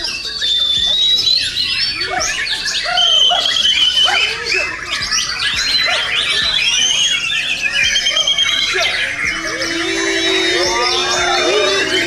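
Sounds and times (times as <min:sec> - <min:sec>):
birds singing in chorus: 0:00.0 - 0:12.0.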